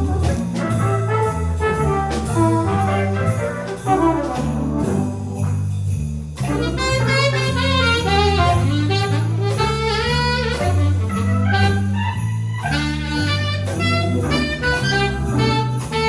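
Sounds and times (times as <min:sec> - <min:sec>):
horn melody: 0:00.0 - 0:05.7, 0:06.4 - 0:16.0
bass line: 0:00.0 - 0:16.0
drums: 0:00.0 - 0:16.0
shaken sleigh rattle percussion: 0:00.0 - 0:16.0.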